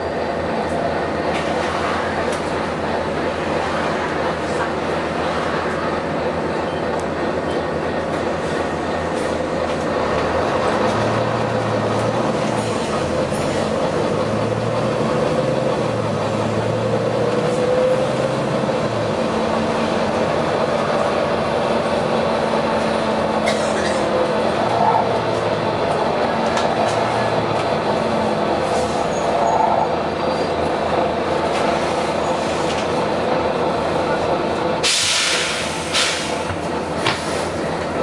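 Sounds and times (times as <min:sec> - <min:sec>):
bus engine running: 0:00.0 - 0:38.0.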